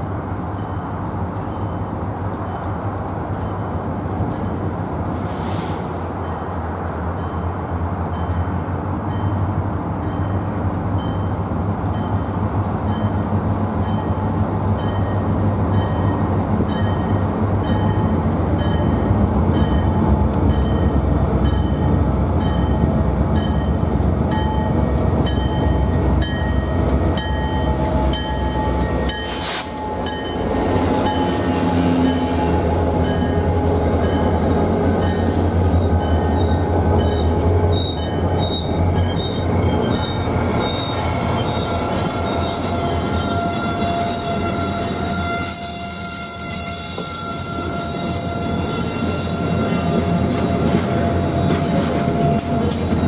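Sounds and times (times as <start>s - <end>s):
diesel locomotive engine rumbling: 0.0s - 53.0s
train coaches rolling on rails: 0.0s - 53.0s.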